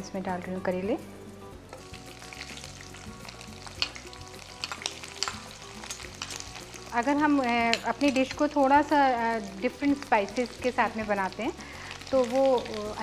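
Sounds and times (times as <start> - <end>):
vegetables deep-frying with crackles: 1.7 - 13.0.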